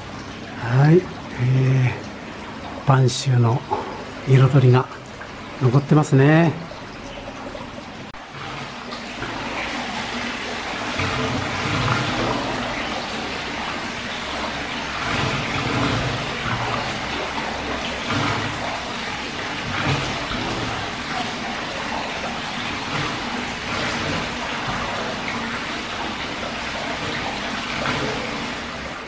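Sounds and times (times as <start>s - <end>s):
water pouring into a bath: 0.0s - 29.0s.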